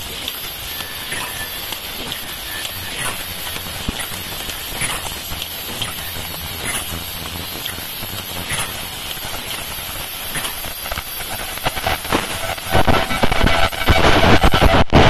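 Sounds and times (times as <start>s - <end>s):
machine hissing: 0.0s - 15.0s.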